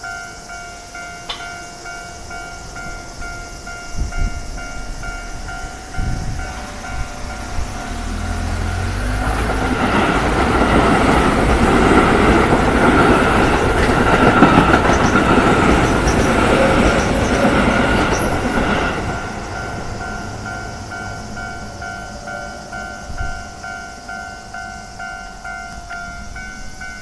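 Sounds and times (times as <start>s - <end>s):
crossing warning bell dinging: 0.0s - 27.0s
train wheels clattering on rails: 0.0s - 27.0s.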